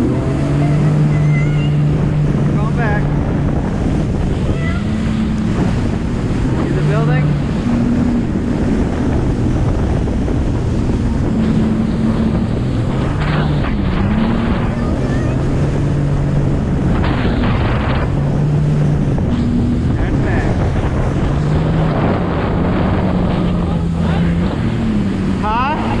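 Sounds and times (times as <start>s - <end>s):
jet ski engine running: 0.0s - 26.0s
water splashing against hull: 0.0s - 26.0s
wind noise on microphone: 0.0s - 26.0s.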